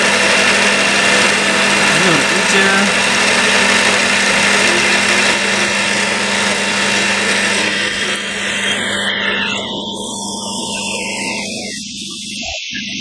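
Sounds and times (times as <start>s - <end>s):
metal lathe whirring: 0.0s - 12.8s.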